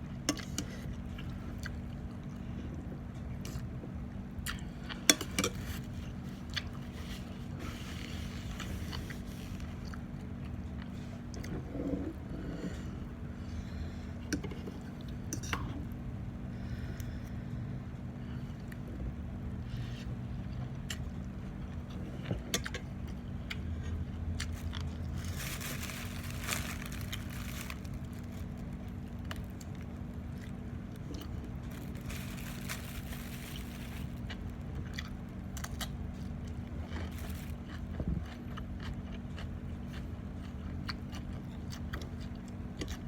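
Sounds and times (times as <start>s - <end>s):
steady low hum: 0.0s - 43.0s
chewing and crunching: 0.3s - 15.8s, 19.7s - 43.0s.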